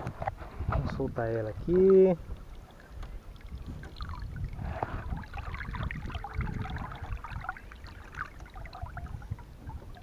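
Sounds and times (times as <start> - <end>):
small water splashes: 1.1 - 10.0.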